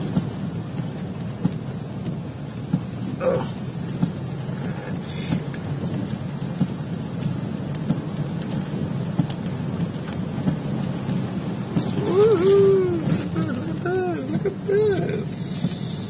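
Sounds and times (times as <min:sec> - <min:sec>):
heavy rain on a car roof: 0:00.0 - 0:16.0.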